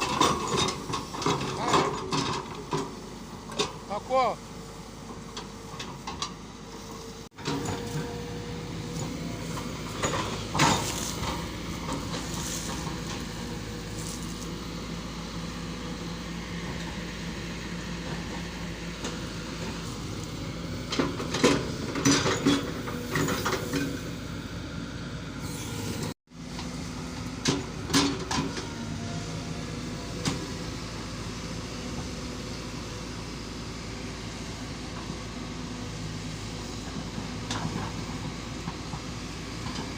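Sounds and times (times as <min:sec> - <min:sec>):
heavy machine humming: 0:00.0 - 0:39.9.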